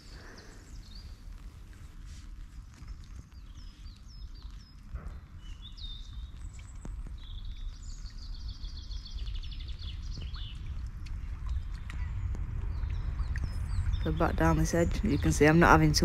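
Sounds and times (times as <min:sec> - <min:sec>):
low rumble: 0:00.0 - 0:16.0
songbird singing: 0:00.0 - 0:16.0.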